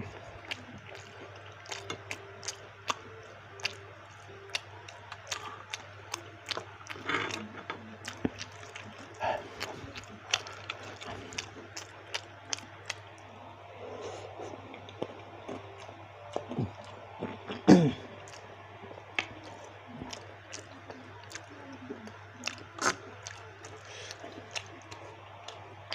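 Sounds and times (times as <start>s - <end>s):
wet chewing with mouth clicks: 0.0s - 13.3s, 14.0s - 25.9s.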